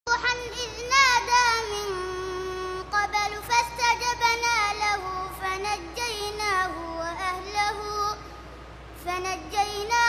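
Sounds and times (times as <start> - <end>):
boy reciting melodically: 0.1 - 10.0.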